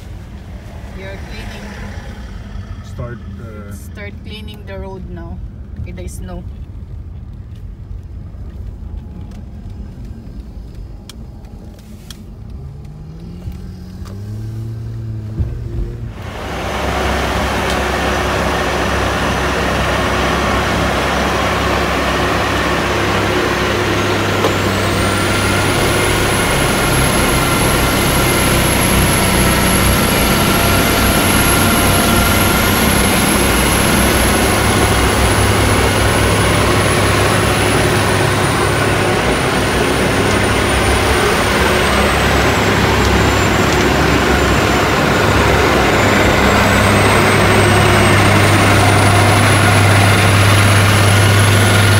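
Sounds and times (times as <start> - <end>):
heavy trucks running: 0.0 - 51.9.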